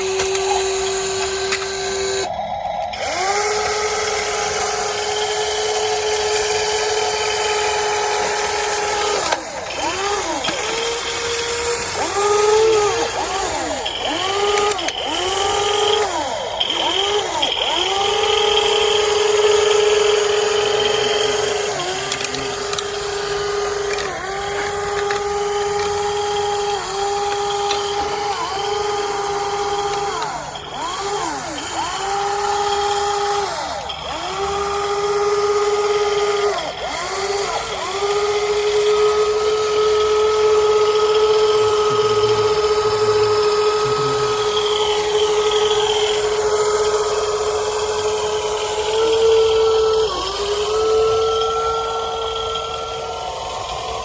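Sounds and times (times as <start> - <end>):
electric motors whining: 0.0 - 54.0.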